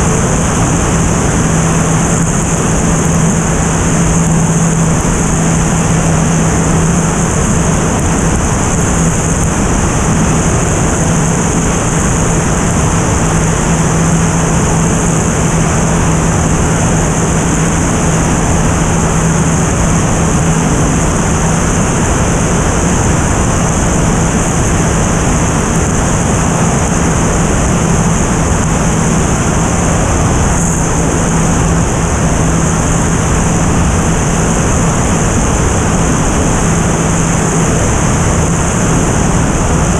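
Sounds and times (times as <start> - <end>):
airplane engine and propeller hum: 0.0 - 39.9
wind rush over microphone: 0.0 - 39.9.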